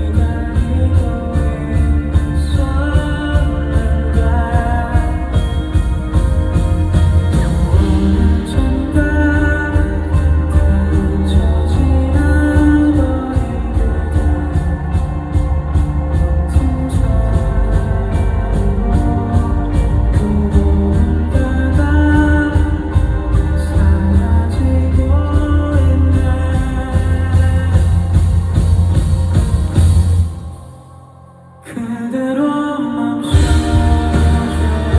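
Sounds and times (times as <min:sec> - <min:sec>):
man singing: 0:00.0 - 0:29.3, 0:30.8 - 0:34.9
live band music: 0:00.0 - 0:31.0, 0:33.2 - 0:34.9.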